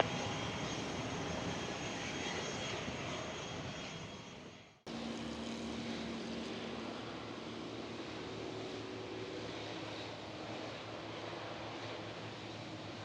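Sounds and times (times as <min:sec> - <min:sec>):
aircraft engine noise: 0:00.0 - 0:13.0.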